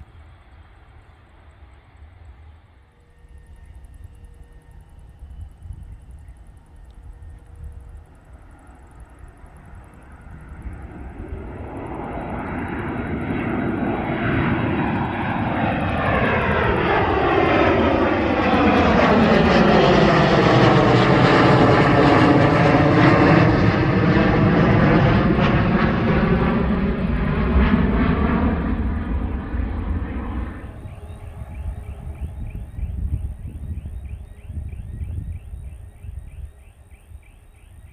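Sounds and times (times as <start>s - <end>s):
jet airliner engines passing: 0.0s - 37.9s.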